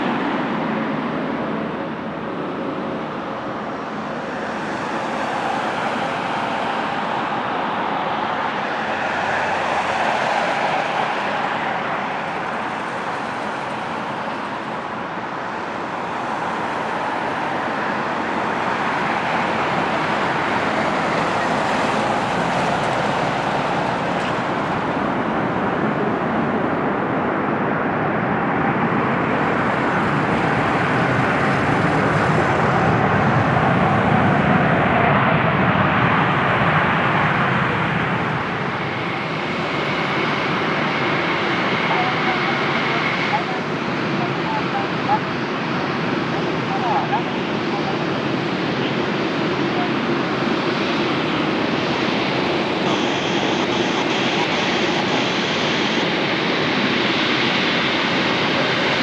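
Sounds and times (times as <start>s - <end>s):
jet airliner rumble: 0.0s - 59.0s
passing road traffic: 0.1s - 59.0s.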